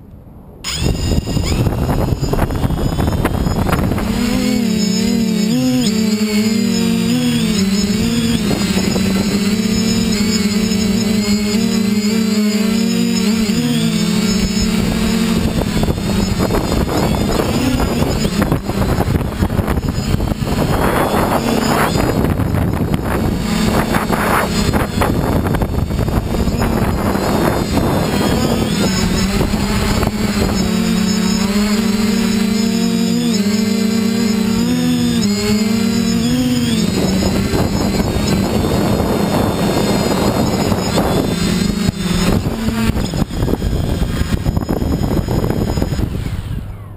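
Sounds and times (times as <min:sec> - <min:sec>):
drone motors and propellers whirring: 0:00.0 - 0:46.9
wind rushing over microphone: 0:00.0 - 0:46.9.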